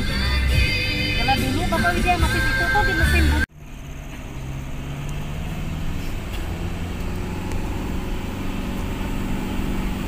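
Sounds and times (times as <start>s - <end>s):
vehicle engine running: 0.0s - 10.0s
tyres on rough dirt track: 1.2s - 10.0s.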